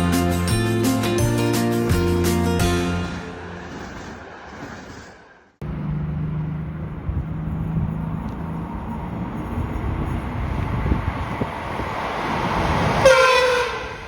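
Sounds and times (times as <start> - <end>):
low steady train hum: 0.0 - 14.0.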